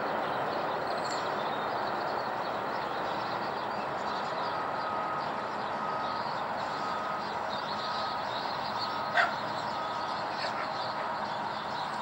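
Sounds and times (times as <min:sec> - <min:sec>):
jet engines roaring overhead: 0:00.0 - 0:12.0.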